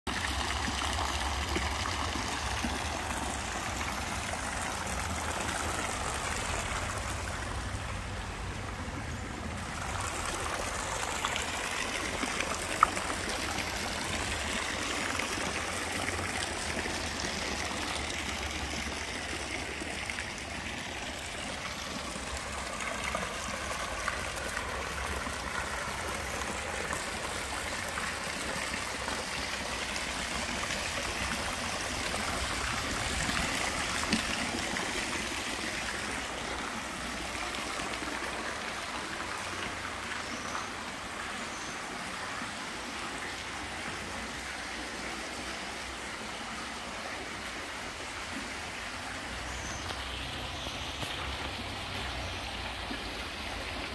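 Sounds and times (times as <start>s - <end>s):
water jets splashing into pool: 0.1s - 53.9s.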